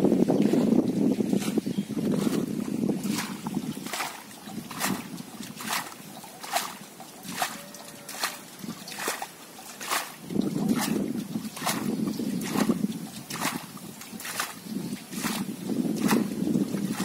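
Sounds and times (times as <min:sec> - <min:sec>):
water splashes: 0:00.0 - 0:17.0
bowl scooping water: 0:00.2 - 0:17.0.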